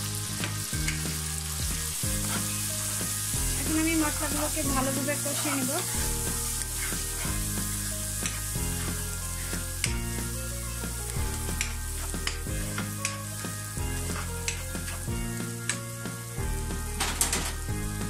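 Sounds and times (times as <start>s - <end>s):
background music: 0.0s - 18.0s
masala sizzling in a frying pan: 0.0s - 18.0s
spatula scraping a pan: 0.4s - 15.1s.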